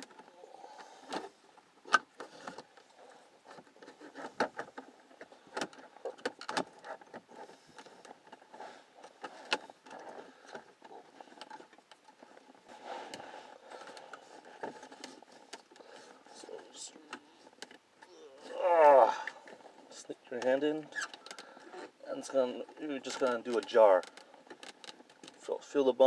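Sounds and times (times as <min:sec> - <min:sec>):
hands rustling and tapping plastic: 0:01.1 - 0:18.5, 0:19.2 - 0:25.5.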